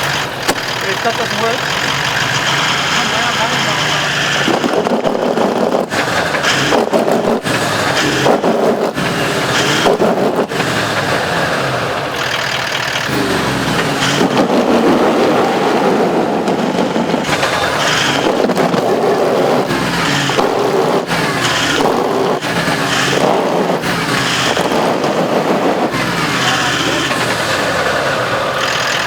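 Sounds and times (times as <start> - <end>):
engine revving under load: 0.0 - 29.0.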